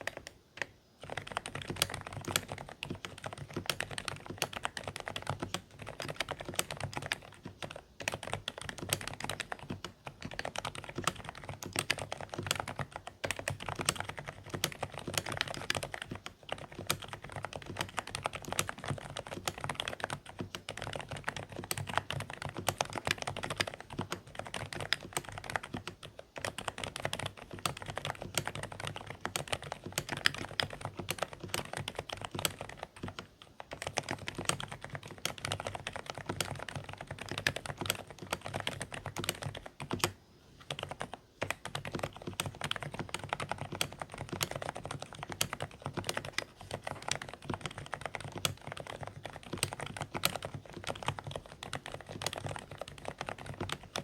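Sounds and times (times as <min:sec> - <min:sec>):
muffled keyboard typing: 0:00.0 - 0:54.0.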